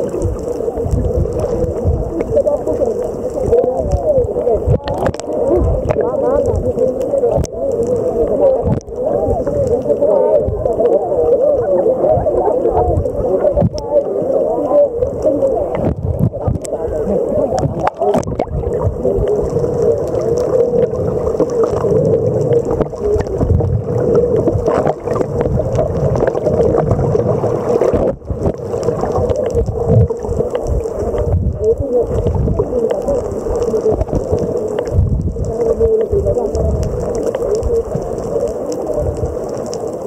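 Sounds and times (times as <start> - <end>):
muffled underwater water sloshing: 0.0 - 40.0.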